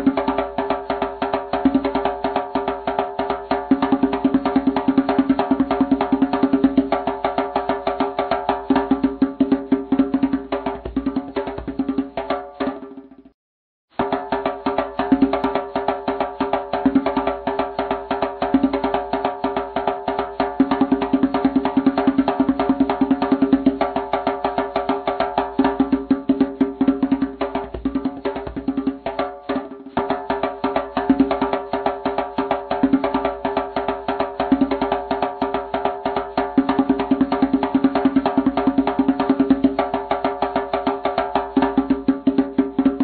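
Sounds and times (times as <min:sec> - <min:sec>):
music with fast percussive beat: 0:00.0 - 0:13.3, 0:14.0 - 0:43.0.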